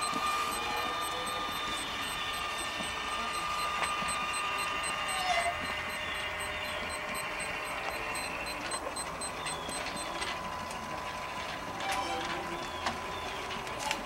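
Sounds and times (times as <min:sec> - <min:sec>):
rotisserie motor humming: 0:00.0 - 0:11.8.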